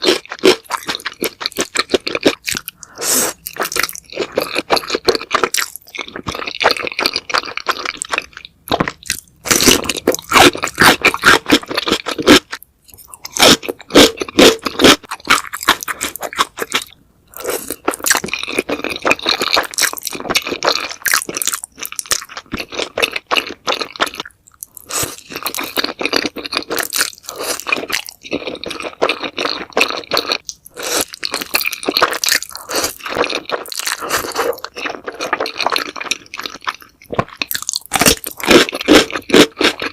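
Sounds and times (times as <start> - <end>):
crunching and chewing fried chicken: 0.0 - 39.9.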